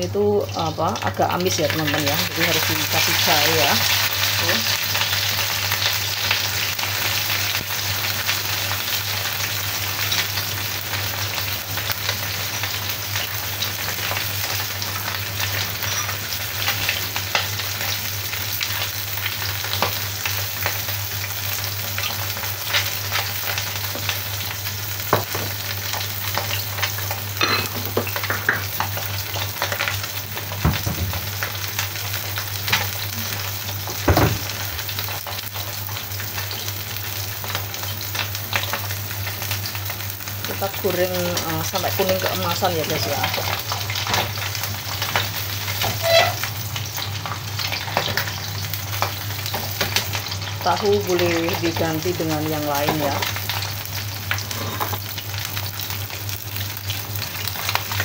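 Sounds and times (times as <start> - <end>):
fish sizzling in hot oil: 0.0 - 58.0
oil popping and crackling: 0.1 - 58.0.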